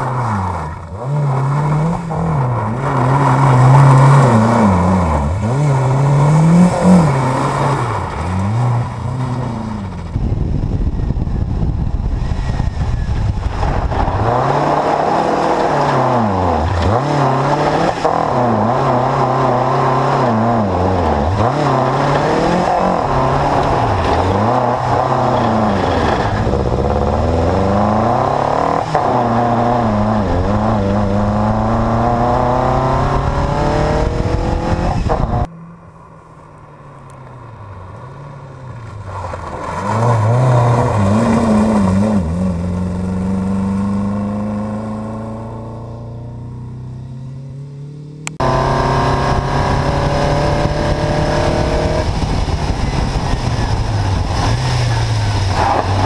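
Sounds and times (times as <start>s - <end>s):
rally car engine revving hard: 0.0s - 10.2s, 11.9s - 35.5s, 39.6s - 46.7s, 47.8s - 56.0s.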